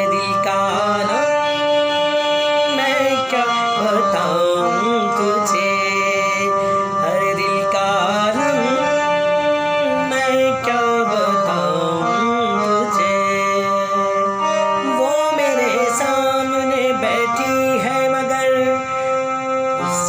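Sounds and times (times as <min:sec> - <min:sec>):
electronic keyboard chords: 0:00.0 - 0:20.0
man singing: 0:00.0 - 0:20.0.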